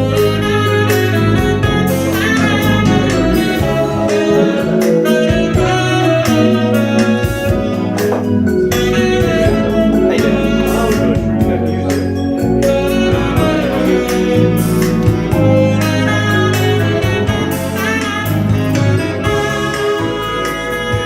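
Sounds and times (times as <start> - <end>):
song over loudspeakers: 0.0 - 21.0.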